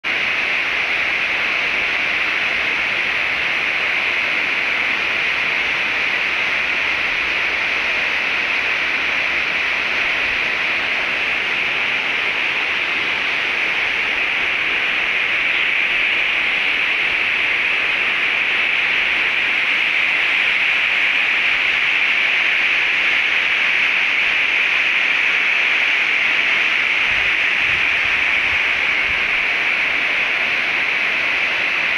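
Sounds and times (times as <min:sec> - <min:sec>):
waterfall hiss: 0:00.1 - 0:31.9.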